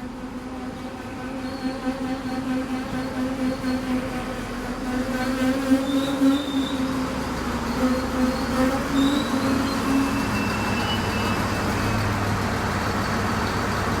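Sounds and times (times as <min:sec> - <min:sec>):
locomotive diesel engine humming: 0:00.0 - 0:14.0.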